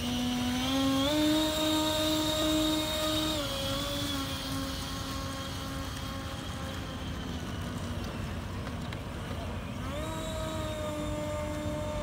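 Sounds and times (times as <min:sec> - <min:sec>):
electric ducted fans whining: 0:00.0 - 0:12.0.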